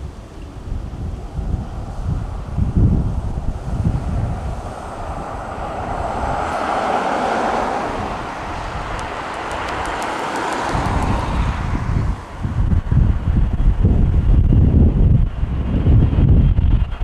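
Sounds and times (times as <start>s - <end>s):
jet engines passing: 0.0s - 17.0s
wind buffeting microphone: 0.0s - 17.0s.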